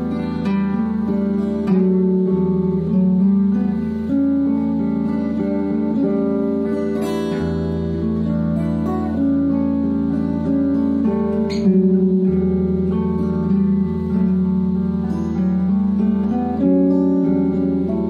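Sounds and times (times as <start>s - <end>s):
acoustic guitar: 0.0s - 18.0s
electric guitar: 0.0s - 18.0s.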